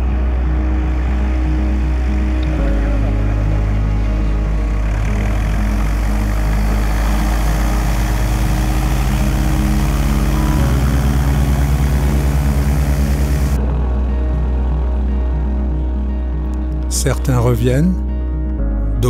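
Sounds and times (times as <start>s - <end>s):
light aircraft engine and propeller: 0.0s - 15.5s.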